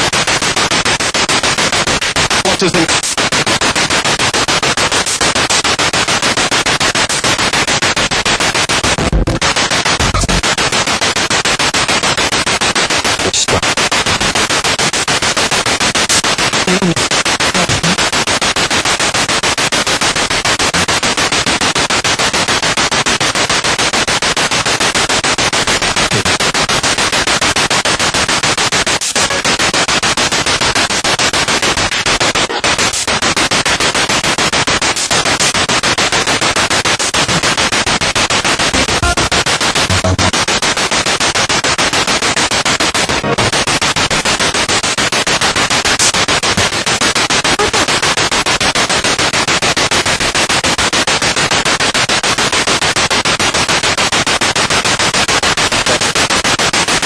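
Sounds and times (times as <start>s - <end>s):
radio broadcast fragments: 0.0s - 22.2s, 23.7s - 49.8s
stuttering radio static: 0.0s - 57.0s.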